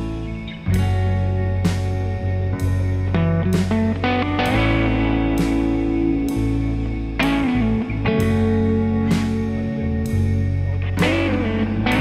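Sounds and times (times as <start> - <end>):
held low bass: 0.0 - 12.0
plucked guitar notes: 0.0 - 12.0.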